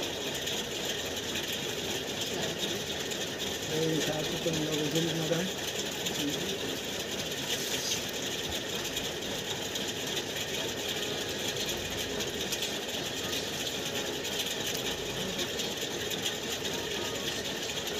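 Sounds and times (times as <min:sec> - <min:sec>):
ceiling fan whirring: 0:00.0 - 0:17.9
fine rapid rattle: 0:00.0 - 0:17.9.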